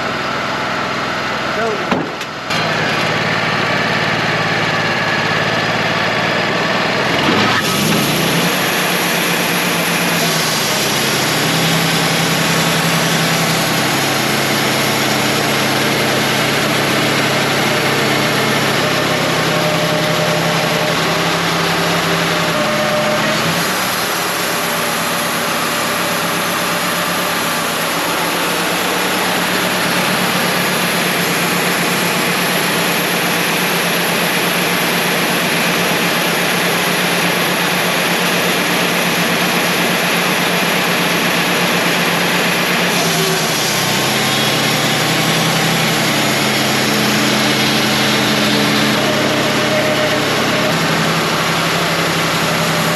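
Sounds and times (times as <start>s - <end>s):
bandsaw mill sawing log: 0.0s - 52.9s.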